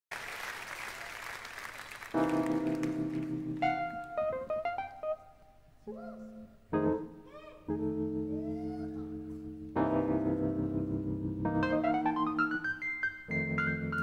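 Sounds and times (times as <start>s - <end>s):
keyboard playing chords and notes: 2.1s - 14.0s.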